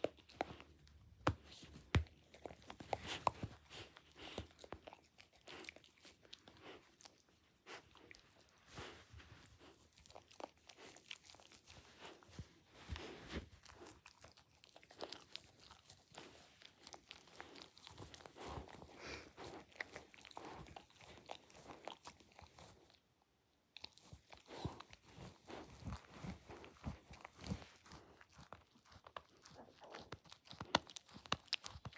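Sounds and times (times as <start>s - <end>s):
dog chewing a soft toy: 0.0s - 23.1s, 23.7s - 31.9s.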